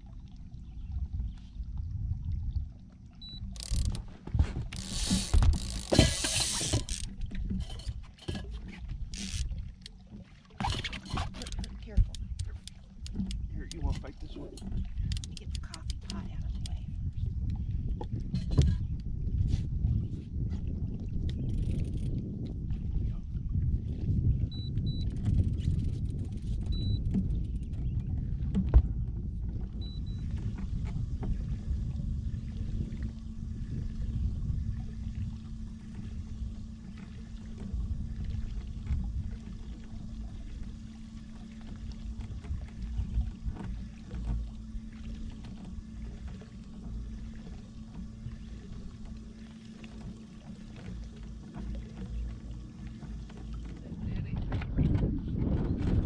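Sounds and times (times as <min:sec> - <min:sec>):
faint steady hum: 0:00.0 - 0:54.9
wind and water rumble: 0:00.0 - 0:56.0.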